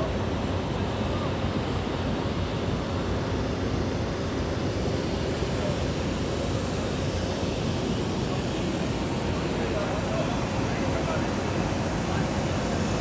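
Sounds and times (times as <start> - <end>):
aircraft rushing in flight: 0.0 - 13.0.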